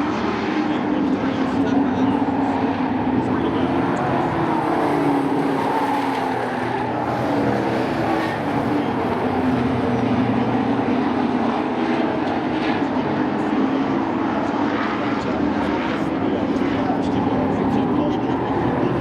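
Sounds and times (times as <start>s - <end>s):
racing truck engines: 0.0s - 19.0s.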